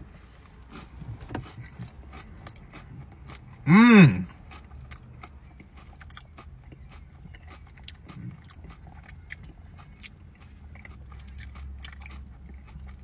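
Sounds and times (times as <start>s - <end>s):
person chewing crunchy chips: 0.3s - 13.0s.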